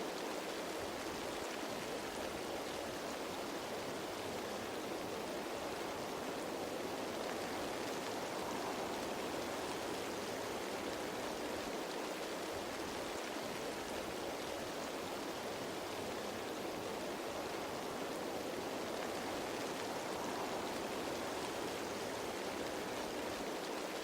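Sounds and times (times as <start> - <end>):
rain falling on leaves: 0.0 - 24.0.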